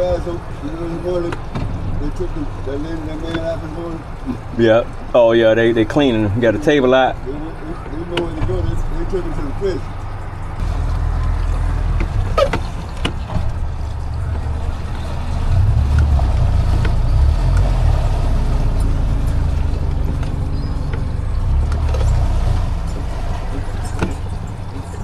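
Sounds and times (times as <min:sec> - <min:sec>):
motor rumbling: 0:00.0 - 0:25.0.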